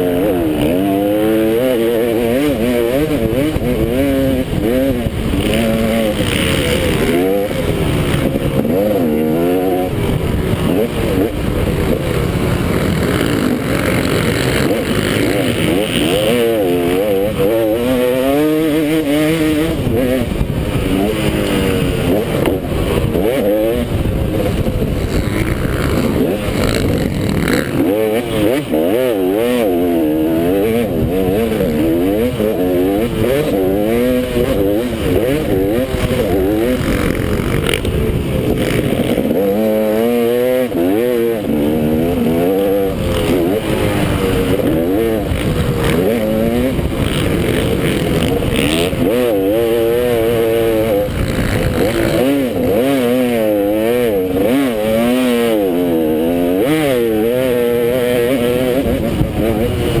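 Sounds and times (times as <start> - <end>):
constant rush of noise: 0.0 - 60.0
motocross bike engine revving: 0.0 - 60.0.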